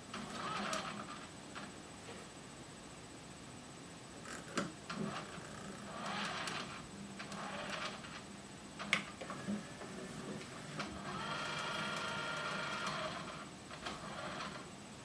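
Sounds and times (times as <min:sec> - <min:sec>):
cd changer carousel whirring: 0:00.0 - 0:15.0.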